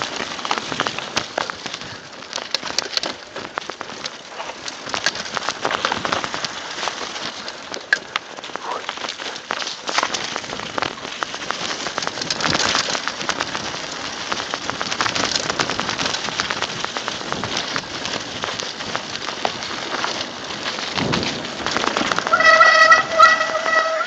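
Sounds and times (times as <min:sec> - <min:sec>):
bike rattling: 0:00.0 - 0:24.0
bike tyres crunching on leaves: 0:00.0 - 0:24.0.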